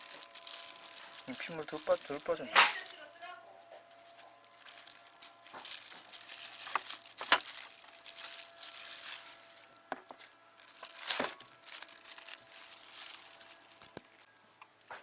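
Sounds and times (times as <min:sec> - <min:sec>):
wrapping crinkling and rustling: 0:00.0 - 0:15.0.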